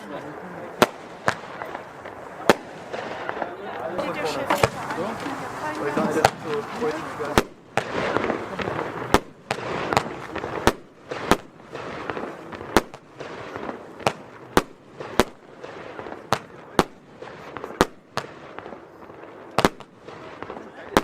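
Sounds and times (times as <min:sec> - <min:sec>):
firework bangs: 0:00.0 - 0:21.0
firework rushing noise: 0:00.0 - 0:21.0.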